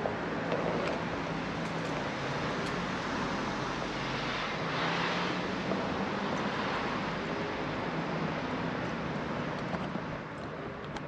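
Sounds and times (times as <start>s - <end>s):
rushing noise of travel on concrete: 0.0s - 11.0s.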